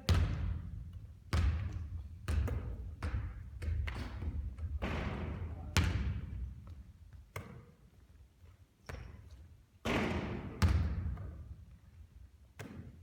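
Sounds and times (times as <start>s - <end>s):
basketball bouncing on a court: 0.0s - 7.7s, 8.8s - 11.6s, 12.6s - 13.0s.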